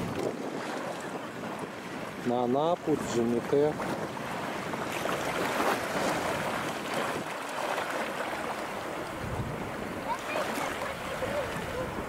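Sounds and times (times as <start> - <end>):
small waves washing onto sand: 0.0 - 12.0
wind on microphone: 0.0 - 12.0.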